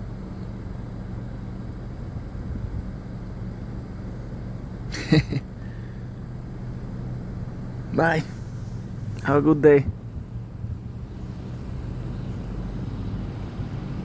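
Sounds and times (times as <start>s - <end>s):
low machine hum: 0.0s - 11.5s.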